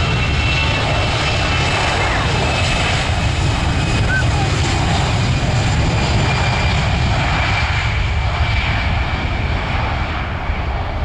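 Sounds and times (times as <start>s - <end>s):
jet engines at take-off power: 0.0s - 11.0s.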